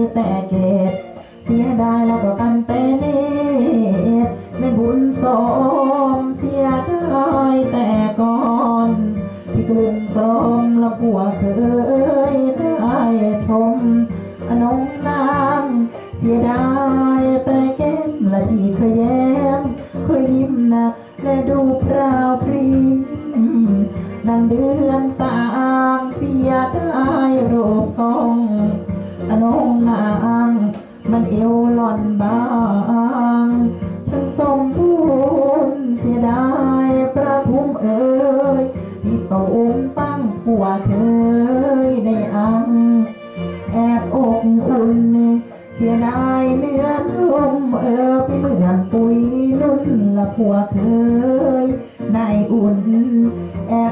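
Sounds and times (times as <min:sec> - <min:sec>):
hoarse voice chant-singing: 0:00.0 - 0:53.9
instrumental backing: 0:00.0 - 0:53.9.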